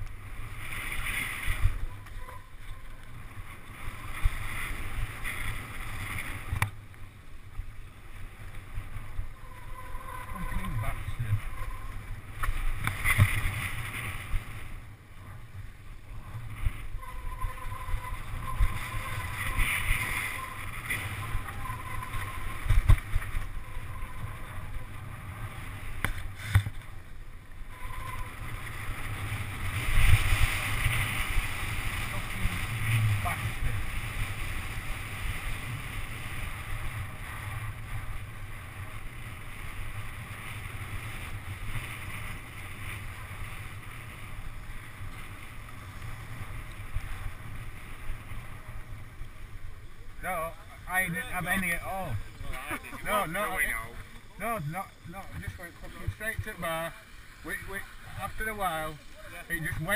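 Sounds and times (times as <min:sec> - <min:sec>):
rush of air and tyre noise: 0:00.0 - 0:59.9.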